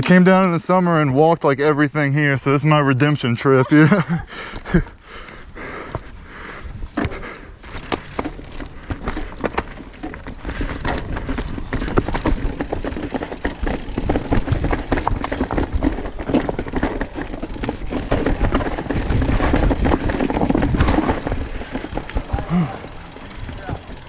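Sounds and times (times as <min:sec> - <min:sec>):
mountain bike rattling over rock: 0:04.6 - 0:24.0.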